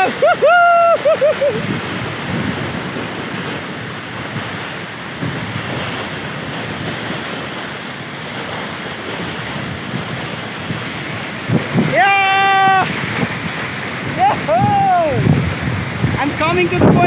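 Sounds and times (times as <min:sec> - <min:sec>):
waterfall roaring: 0:00.0 - 0:17.0
wind buffeting microphone: 0:00.0 - 0:17.0.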